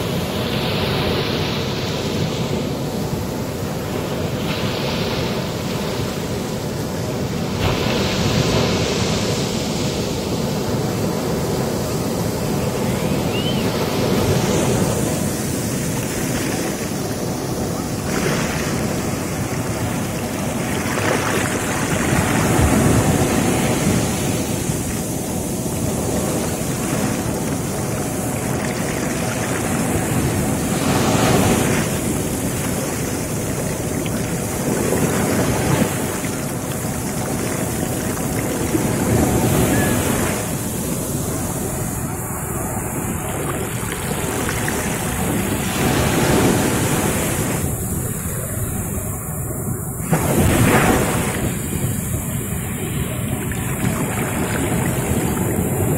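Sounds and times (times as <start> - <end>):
waves breaking on beach: 0.0 - 55.9.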